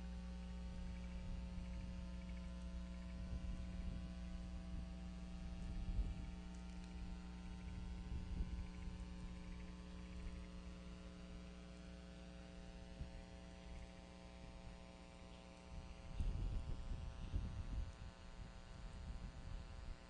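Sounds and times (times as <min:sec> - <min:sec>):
electrical mains hum: 0:00.0 - 0:20.0
faint low rumble: 0:00.0 - 0:20.0.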